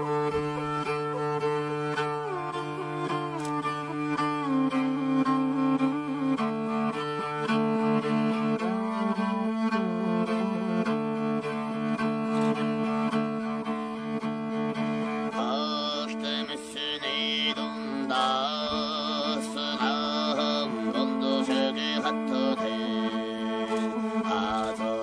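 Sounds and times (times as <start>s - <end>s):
bowed strings music: 0.0s - 25.0s.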